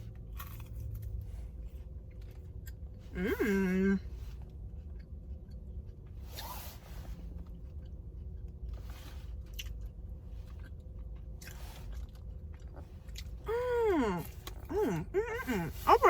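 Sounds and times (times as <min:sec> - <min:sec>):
low steady hum: 0:00.0 - 0:16.0
chewing soft food: 0:00.1 - 0:03.1, 0:04.1 - 0:16.0.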